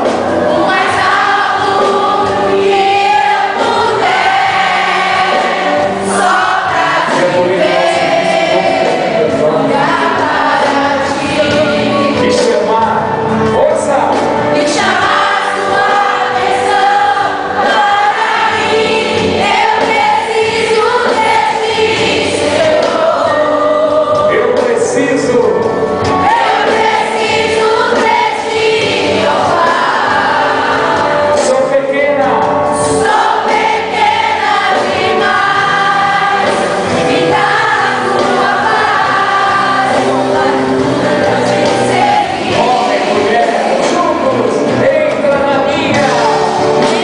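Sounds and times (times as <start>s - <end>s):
band playing: 0.0s - 47.0s
group singing a worship song: 0.0s - 47.0s.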